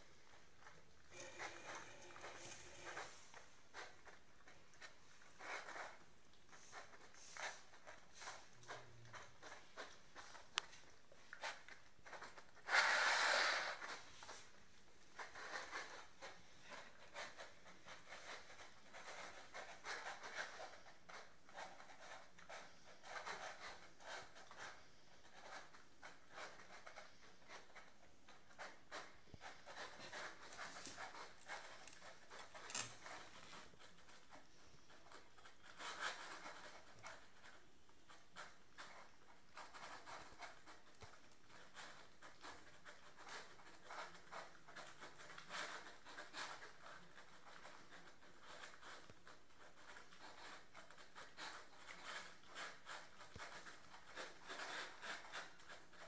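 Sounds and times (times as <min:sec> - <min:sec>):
puppies chewing and lapping: 0:00.1 - 0:12.8, 0:13.6 - 0:56.0.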